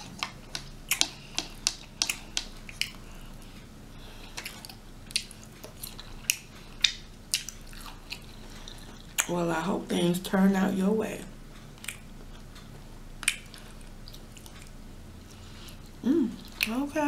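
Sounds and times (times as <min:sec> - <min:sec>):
chewing and mouth sounds: 0:00.0 - 0:09.3, 0:11.7 - 0:16.8.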